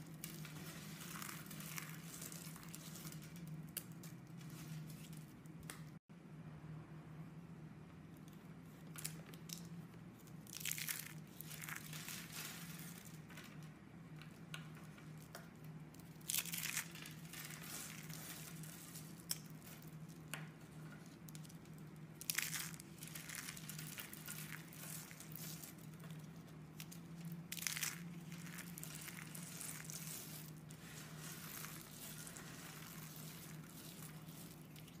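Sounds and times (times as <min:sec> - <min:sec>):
soap shavings crinkling and crunching: 0:00.0 - 0:06.0, 0:08.7 - 0:35.0.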